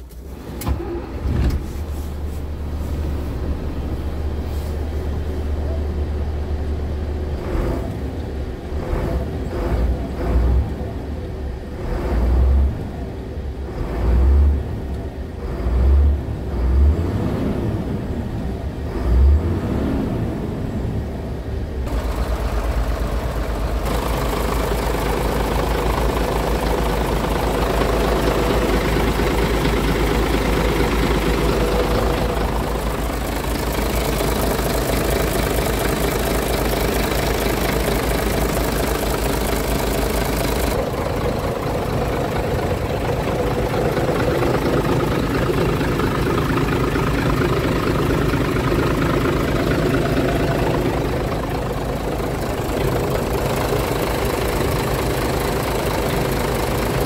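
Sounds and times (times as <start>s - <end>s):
diesel truck engine idling: 0.8s - 19.6s, 20.3s - 57.0s.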